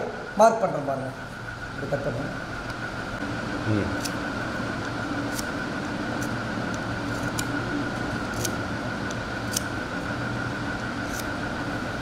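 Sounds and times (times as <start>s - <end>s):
workshop hum with whine: 0.0s - 12.0s.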